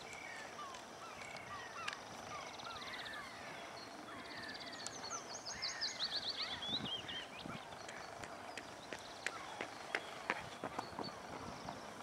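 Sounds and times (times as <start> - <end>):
songbirds whistling and trilling: 0.0 - 12.0.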